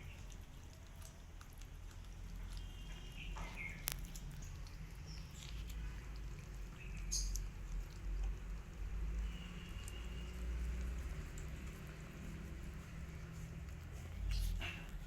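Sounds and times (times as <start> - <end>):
small eating clicks: 0.0 - 15.0.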